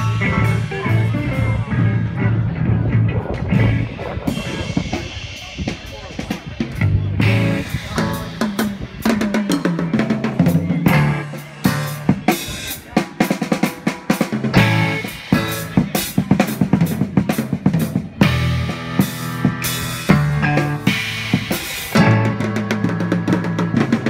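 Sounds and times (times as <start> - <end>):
drum kit beat: 0.0 - 2.4, 3.4 - 24.0
live band playing: 0.0 - 24.0.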